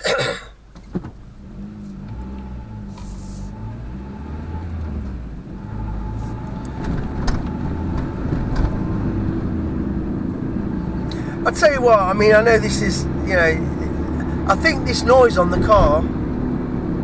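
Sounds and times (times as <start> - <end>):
car engine and exhaust: 0.0 - 17.0.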